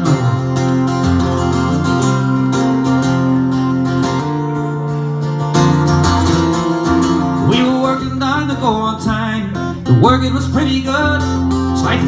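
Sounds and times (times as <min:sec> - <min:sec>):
acoustic guitar strummed: 0:00.0 - 0:12.0.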